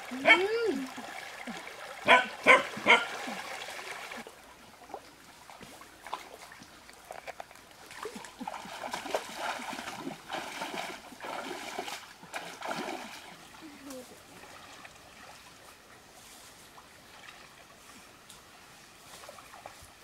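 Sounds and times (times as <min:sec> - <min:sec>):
feet wading through stream: 0:00.0 - 0:20.0.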